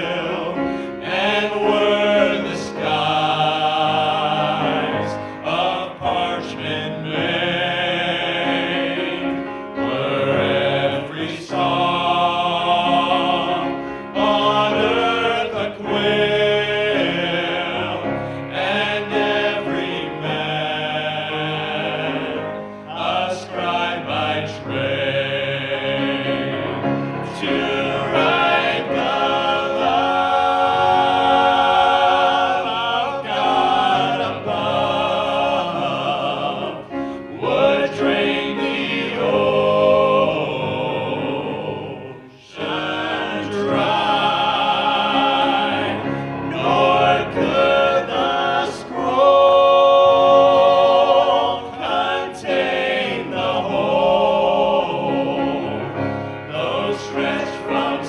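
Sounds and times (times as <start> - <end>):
vocal group singing a hymn: 0.0 - 58.0.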